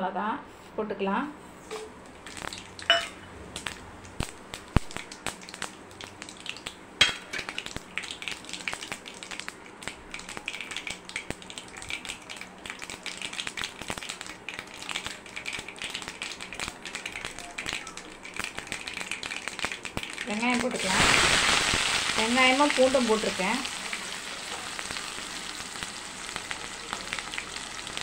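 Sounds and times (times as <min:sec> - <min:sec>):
spices crackling in hot oil: 0:01.7 - 0:28.0.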